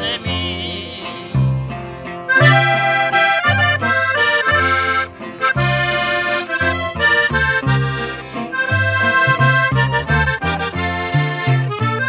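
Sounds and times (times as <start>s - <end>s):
bass line: 0.0s - 12.0s
button accordion melody: 0.0s - 12.0s.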